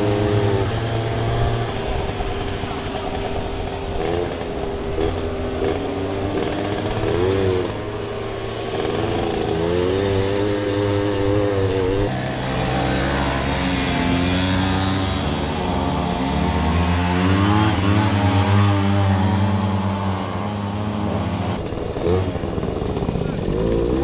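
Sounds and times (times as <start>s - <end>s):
moped engine revving: 0.0s - 24.0s.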